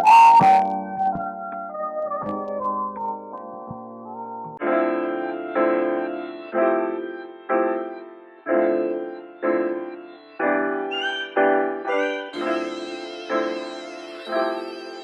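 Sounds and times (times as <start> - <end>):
keyboard chords: 0.0 - 15.0.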